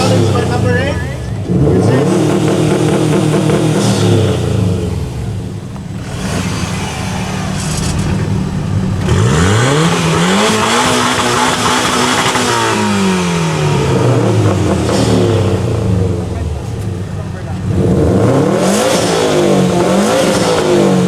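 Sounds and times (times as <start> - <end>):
engine revving with loud exhaust: 0.0 - 21.0.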